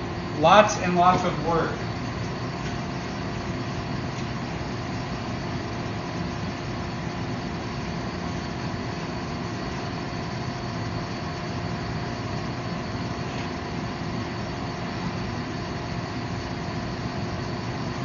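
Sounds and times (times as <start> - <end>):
faint tonal hum: 0.0 - 18.0
forge machinery running: 0.0 - 18.0.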